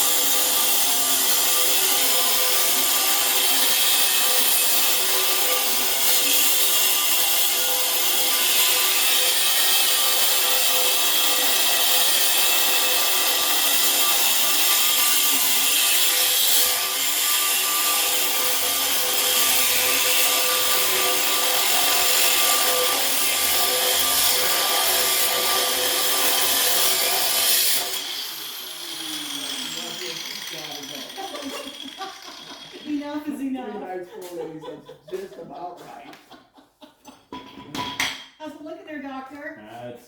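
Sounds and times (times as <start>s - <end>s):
power tool cutting metal: 0.0s - 33.4s.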